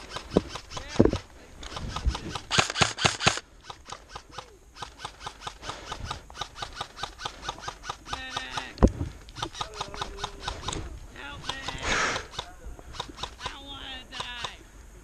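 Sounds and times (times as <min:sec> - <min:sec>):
airsoft guns firing: 0:00.0 - 0:08.8, 0:09.4 - 0:14.6.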